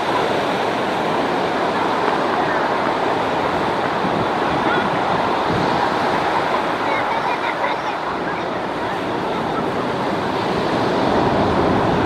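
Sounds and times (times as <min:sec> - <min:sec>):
ocean surf washing: 0:00.0 - 0:12.0.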